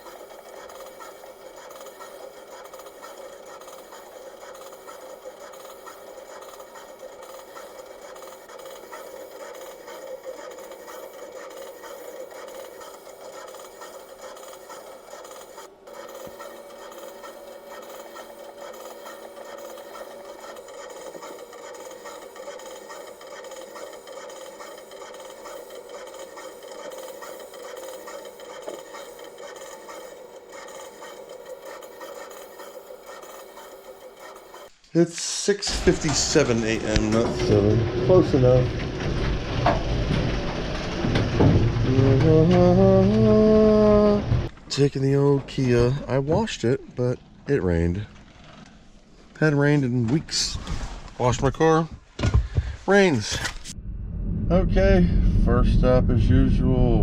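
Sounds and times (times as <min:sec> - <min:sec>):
pick-and-place machine running: 0:00.0 - 0:34.8, 0:35.6 - 0:53.8
rapid fine ticking: 0:00.0 - 0:34.8, 0:35.7 - 0:50.5.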